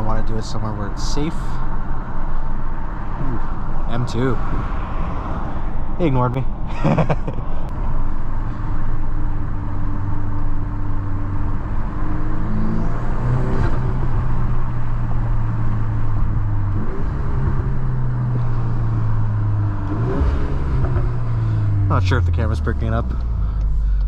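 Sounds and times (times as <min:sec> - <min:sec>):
car engine at raised revs: 0:00.0 - 0:24.0.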